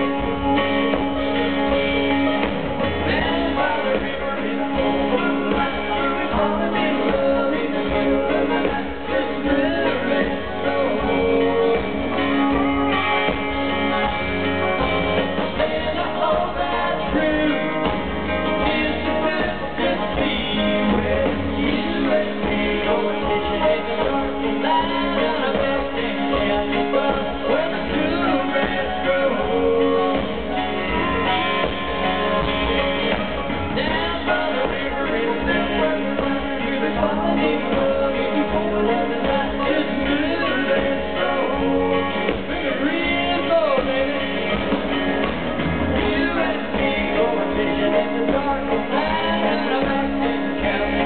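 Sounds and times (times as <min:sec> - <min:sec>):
live country-rock band: 0:00.0 - 0:51.0
man singing lead: 0:00.0 - 0:51.0.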